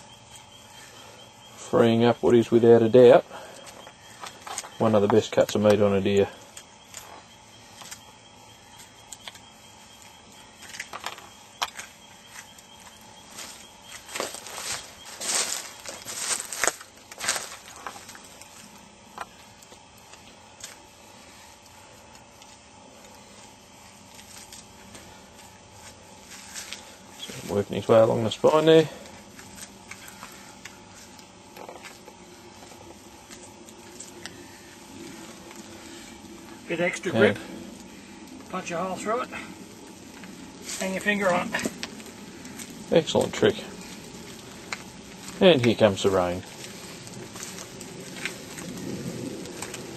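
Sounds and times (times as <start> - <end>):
faint irregular ticks: 0.0 - 49.9
rustling on dry ground litter: 9.8 - 49.9.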